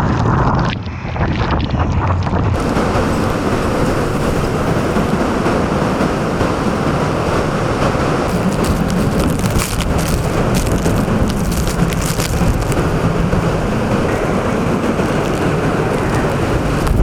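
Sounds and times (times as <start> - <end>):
strong wind blowing: 0.0 - 17.0
driving rain: 2.5 - 17.0.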